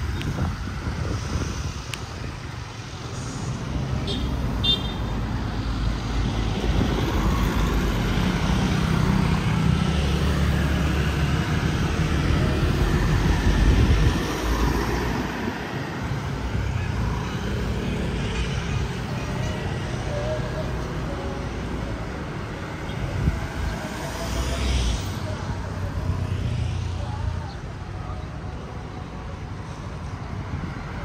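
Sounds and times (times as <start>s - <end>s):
motor traffic going by: 0.0s - 31.0s.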